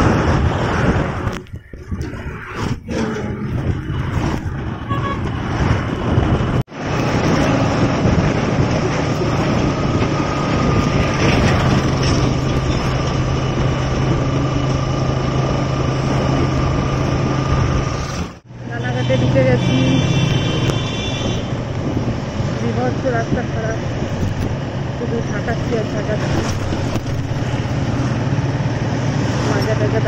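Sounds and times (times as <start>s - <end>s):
road and traffic noise: 0.0s - 30.0s.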